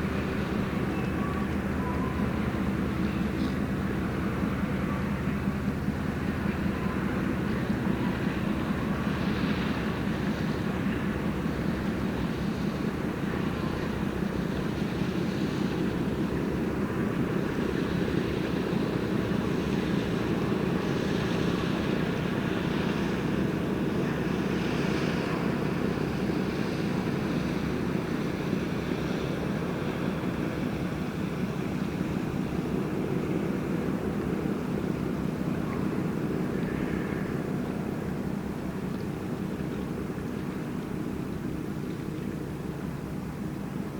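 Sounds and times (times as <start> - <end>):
boat engine running: 0.0 - 43.9
constant low roar: 0.0 - 43.9.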